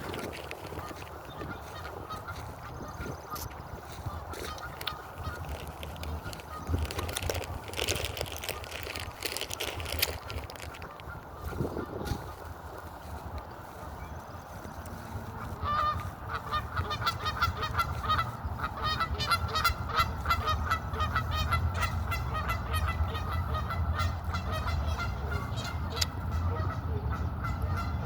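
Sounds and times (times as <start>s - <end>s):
flock of birds calling: 0.0s - 28.0s
steady low rumble: 0.0s - 28.0s.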